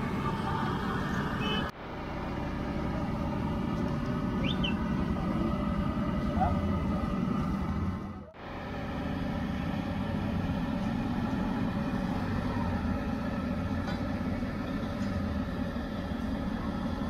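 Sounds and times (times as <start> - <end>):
mechanical drone with low rumble: 0.0 - 17.0.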